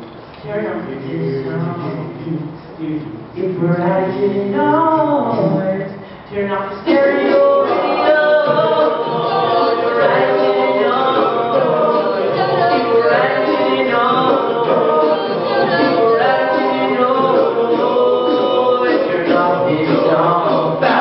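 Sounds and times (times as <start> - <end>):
a cappella group singing: 3.4 - 21.0.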